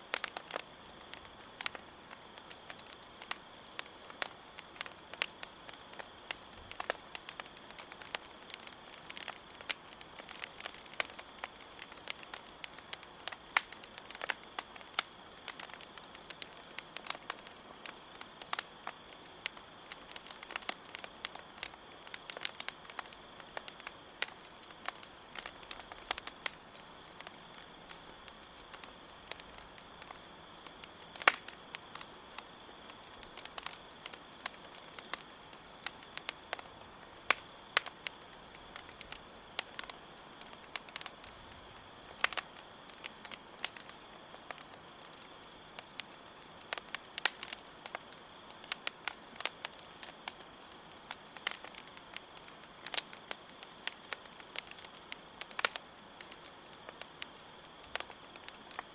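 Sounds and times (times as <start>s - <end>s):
campfire crackling and popping: 0.0s - 58.9s
crickets trilling: 0.0s - 58.9s.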